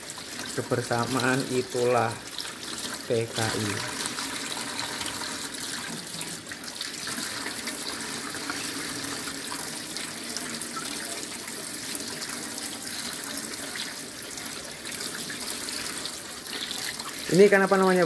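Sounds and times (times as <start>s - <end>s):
tap water running into a sink: 0.0s - 18.0s.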